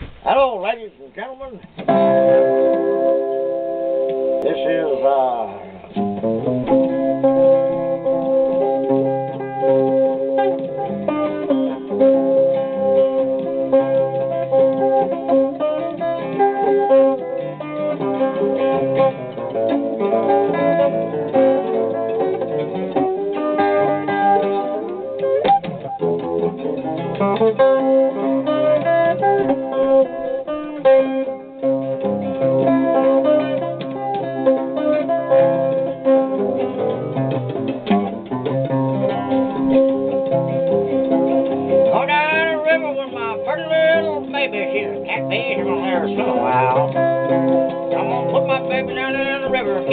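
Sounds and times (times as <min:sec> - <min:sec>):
guitar picking: 0:00.0 - 0:49.9.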